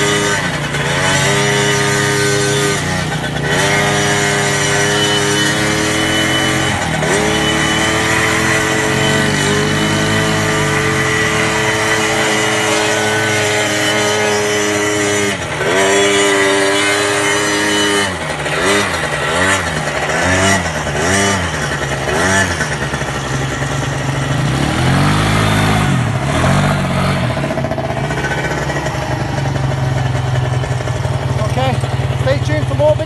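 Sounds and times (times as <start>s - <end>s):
quad bike engine revving: 0.0s - 33.0s.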